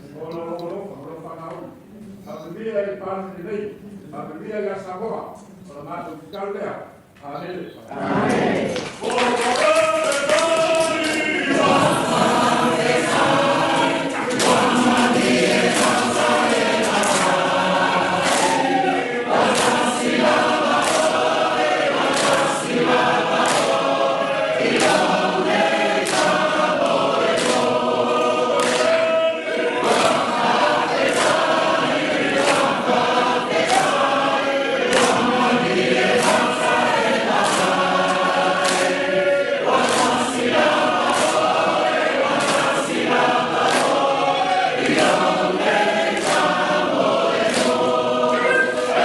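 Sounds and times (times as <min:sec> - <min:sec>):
group of voices singing: 0:07.8 - 0:49.0.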